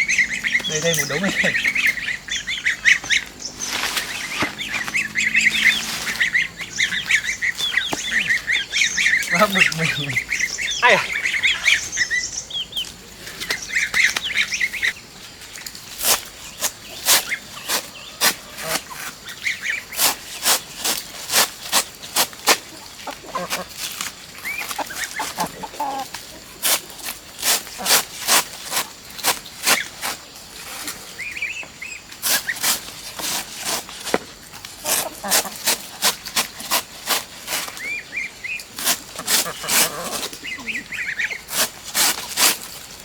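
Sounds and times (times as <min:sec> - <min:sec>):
chickens clucking: 0:00.0 - 0:15.8, 0:16.6 - 0:42.7.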